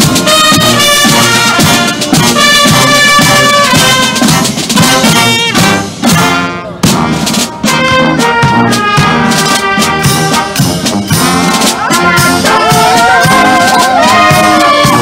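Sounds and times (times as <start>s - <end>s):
bass and snare drum beat: 0.0s - 15.0s
brass playing tune: 0.0s - 15.0s.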